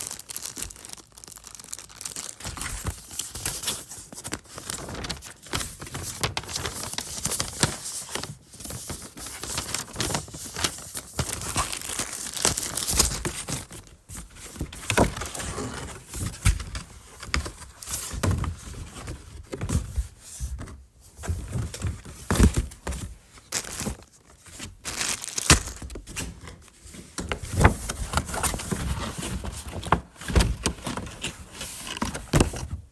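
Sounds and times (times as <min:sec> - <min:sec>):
paper and cardboard rustling: 0:02.0 - 0:32.9.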